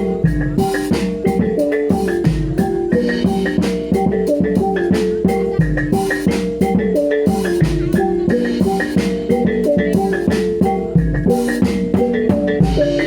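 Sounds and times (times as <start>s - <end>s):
drum strokes: 0.0s - 13.0s
gamelan ensemble playing: 0.0s - 13.0s.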